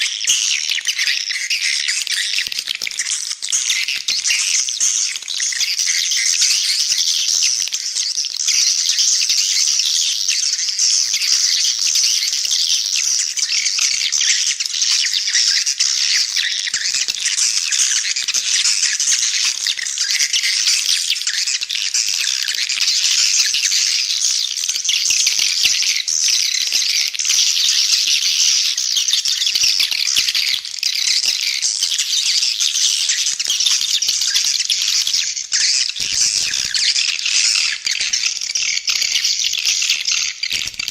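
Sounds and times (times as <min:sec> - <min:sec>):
swiftlets chirping and trilling: 0:00.0 - 0:40.9.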